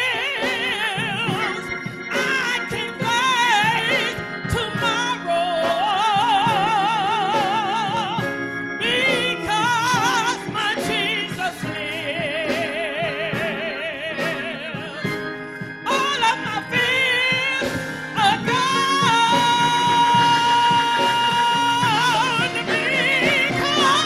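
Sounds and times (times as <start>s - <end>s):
gospel solo singing: 0.0s - 24.0s
instrumental accompaniment: 0.0s - 24.0s.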